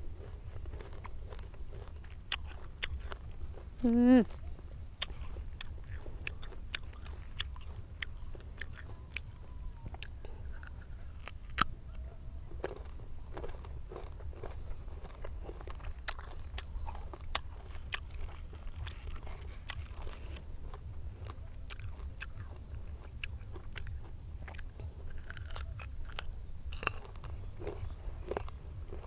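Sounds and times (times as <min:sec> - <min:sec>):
crunching and chewing fruit: 0:00.0 - 0:29.0
steady low rumble: 0:00.0 - 0:29.0.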